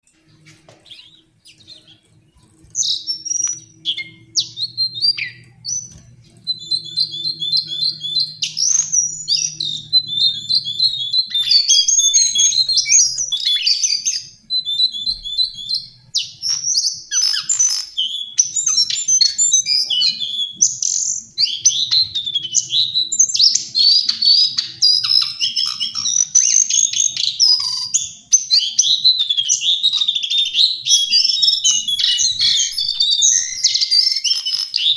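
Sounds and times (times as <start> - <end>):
faint low hum: 0.0 - 33.8
bird singing warbling trills: 0.1 - 34.9.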